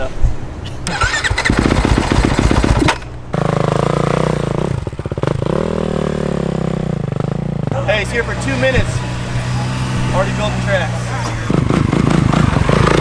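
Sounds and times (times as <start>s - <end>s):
dirt bike engine revving: 0.8s - 13.0s.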